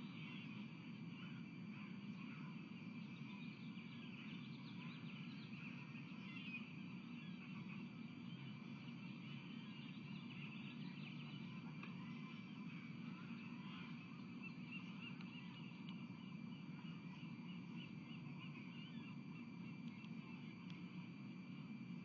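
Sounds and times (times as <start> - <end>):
bird chirping: 2.2 - 20.5.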